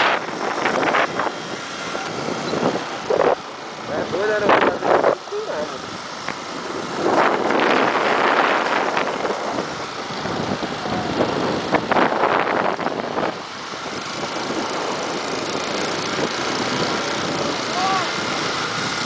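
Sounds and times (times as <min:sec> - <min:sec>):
motorcycles riding: 0:00.0 - 0:19.0
wind buffeting microphone: 0:00.0 - 0:19.0.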